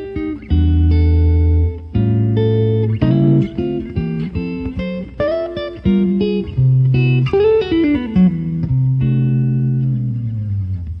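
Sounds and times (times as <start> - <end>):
plucked guitar: 0.0 - 11.0.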